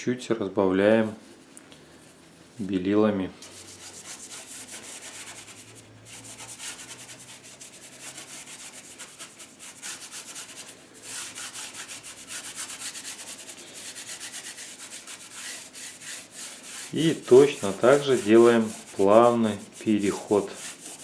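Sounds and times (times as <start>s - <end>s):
paintbrush scrubbing: 3.4s - 21.0s.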